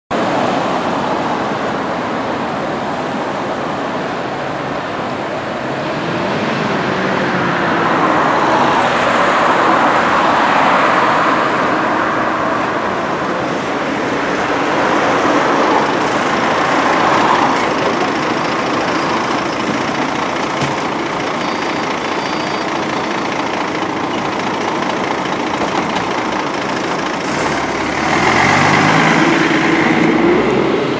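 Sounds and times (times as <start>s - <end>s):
bus accelerating away: 0.1s - 30.9s
buses driving by: 0.1s - 30.9s
road traffic: 0.1s - 30.9s.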